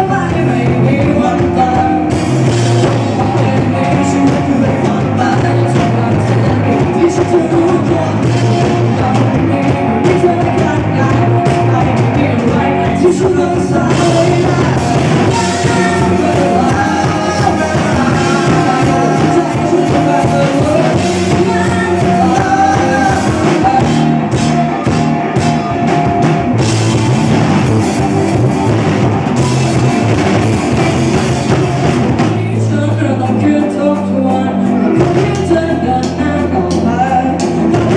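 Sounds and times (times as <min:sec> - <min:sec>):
person singing: 0:00.0 - 0:26.9, 0:30.7 - 0:37.9
rock band playing: 0:00.0 - 0:37.9.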